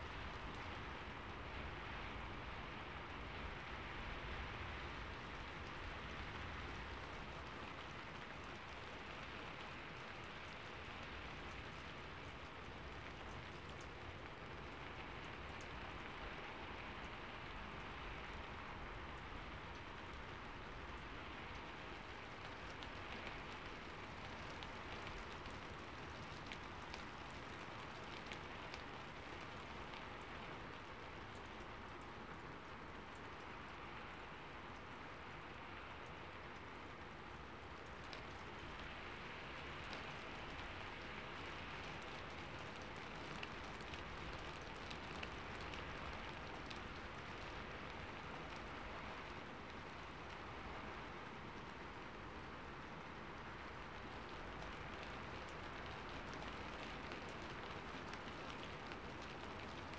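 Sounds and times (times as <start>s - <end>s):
sharp raindrop ticks: 0.0s - 59.9s
steady rain hiss: 0.0s - 59.9s.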